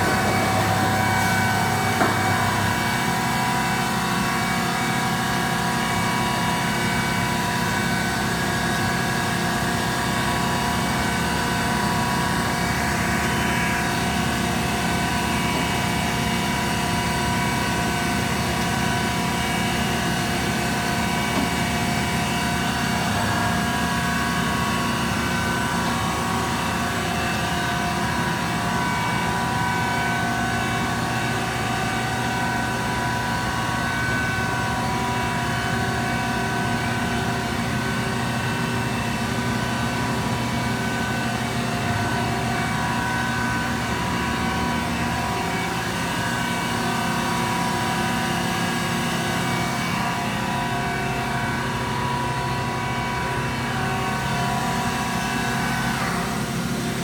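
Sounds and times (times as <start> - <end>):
machine hum with steady tones: 0.0 - 57.0.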